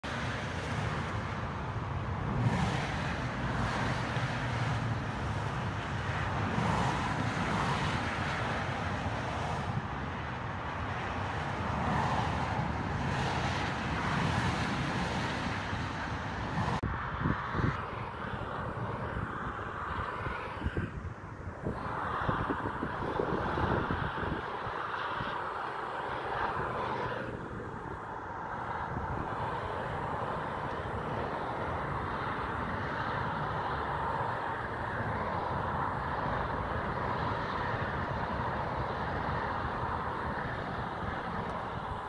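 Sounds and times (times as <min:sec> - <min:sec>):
motorway traffic passing: 0:00.0 - 0:42.0.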